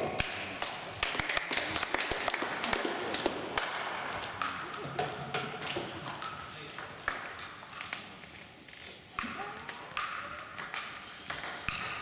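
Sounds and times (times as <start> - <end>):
table tennis ball bouncing: 0.2 - 8.0, 9.2 - 12.0.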